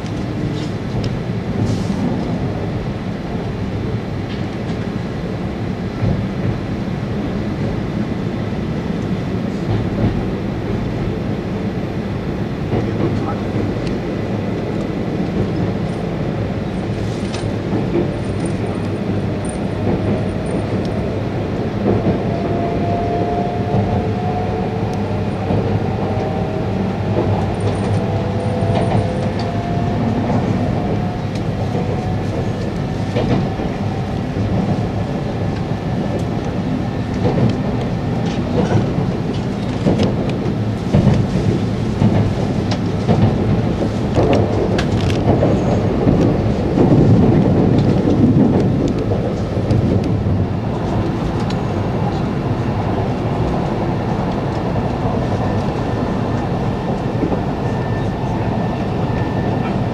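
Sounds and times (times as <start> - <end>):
train cabin rumble: 0.0 - 59.9.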